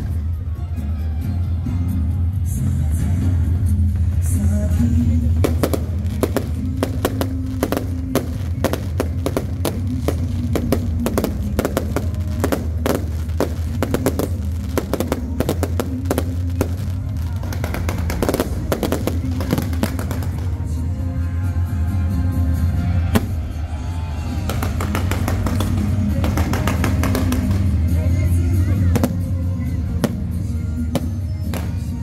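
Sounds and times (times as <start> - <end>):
background music: 0.0 - 32.0
fireworks bangs and crackles: 3.0 - 21.4, 23.1 - 32.0.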